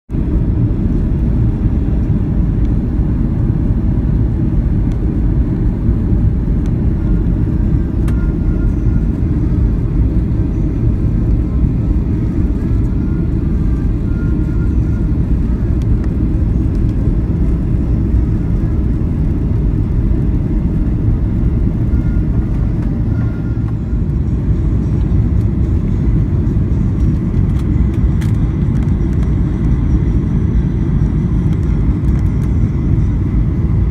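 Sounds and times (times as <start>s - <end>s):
jet engines rumbling: 0.1s - 33.9s.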